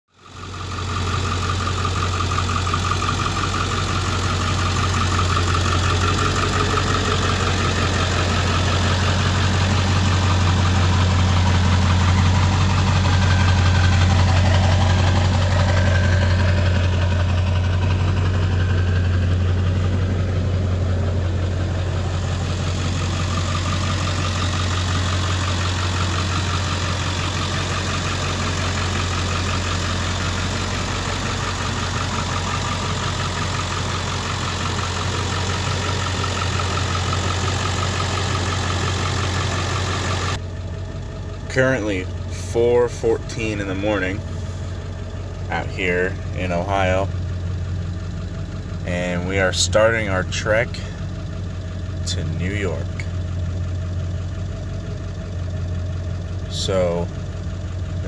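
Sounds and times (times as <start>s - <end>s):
vehicle engine idling: 0.1s - 58.0s.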